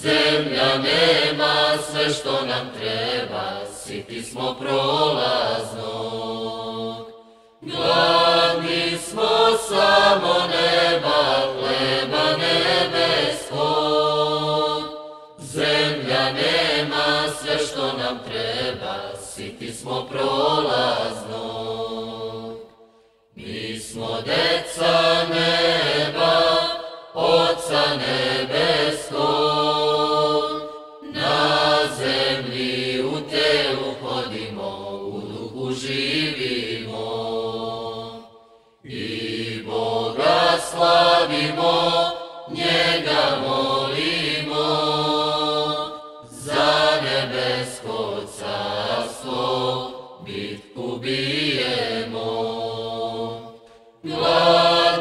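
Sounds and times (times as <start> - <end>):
voices chanting slowly: 0.0 - 55.0.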